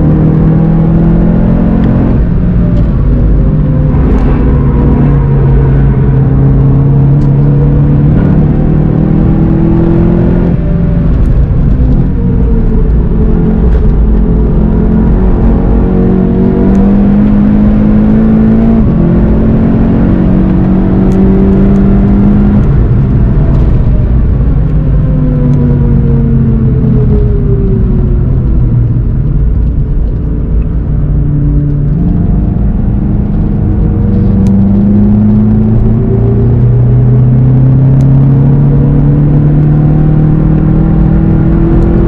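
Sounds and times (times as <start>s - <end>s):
car engine accelerating: 0.0s - 42.0s
road and wind rumble: 0.0s - 42.0s.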